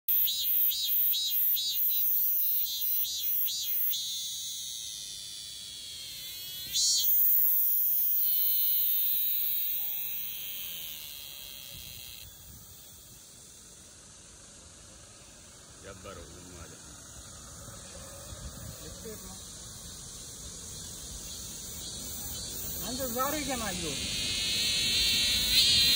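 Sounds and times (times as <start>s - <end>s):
cicada buzzing: 0.1s - 25.9s.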